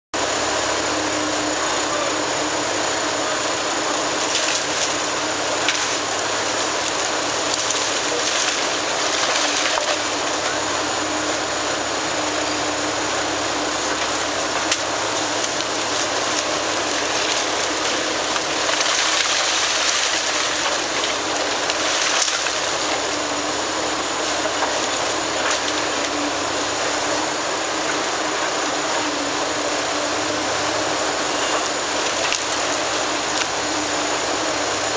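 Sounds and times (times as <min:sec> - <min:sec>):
excavator diesel hum: 0:00.1 - 0:34.9.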